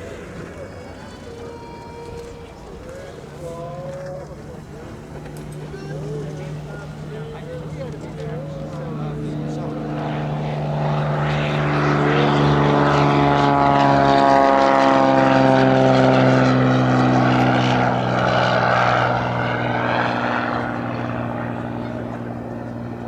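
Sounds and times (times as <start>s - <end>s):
propeller plane passing by: 0.0s - 23.0s.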